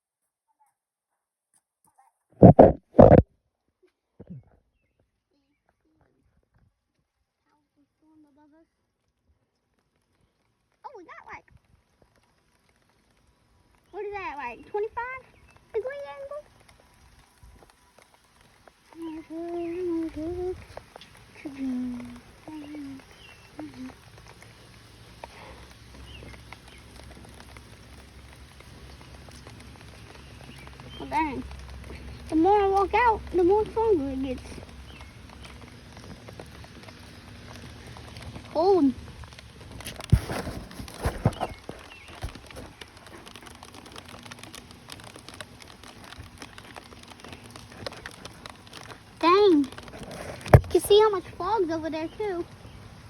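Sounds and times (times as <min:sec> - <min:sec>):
raindrops tapping: 0:02.4 - 0:03.3, 0:09.0 - 0:53.0
steady rain hiss: 0:06.8 - 0:53.0.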